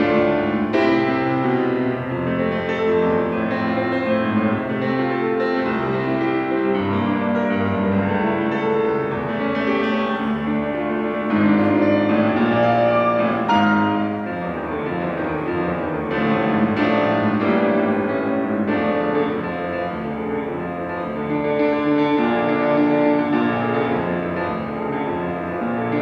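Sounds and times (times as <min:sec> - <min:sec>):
solo classical piano: 0:00.0 - 0:26.0.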